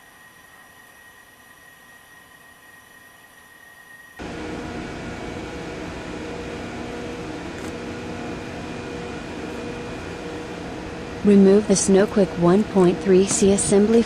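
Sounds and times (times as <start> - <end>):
machinery droning: 0.0 - 14.0.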